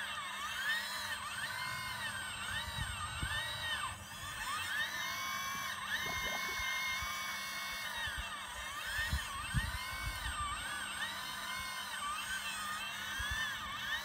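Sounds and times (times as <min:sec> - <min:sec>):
electric hydraulic pump whining: 0:00.0 - 0:14.0.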